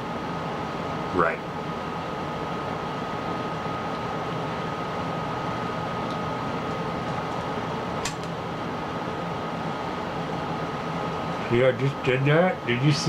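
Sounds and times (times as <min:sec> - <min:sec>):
machine room hum: 0:00.0 - 0:13.0.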